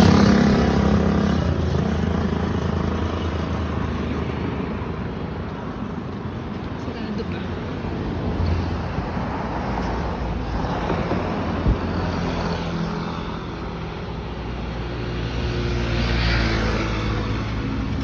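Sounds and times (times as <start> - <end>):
road traffic passing: 0.0 - 18.0
tyres on the road: 0.0 - 18.0
vehicle engines running: 0.0 - 18.0.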